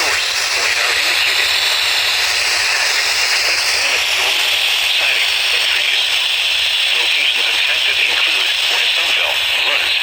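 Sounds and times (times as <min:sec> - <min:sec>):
faint radio broadcast: 0:00.0 - 0:10.0
radio static hiss: 0:00.0 - 0:10.0.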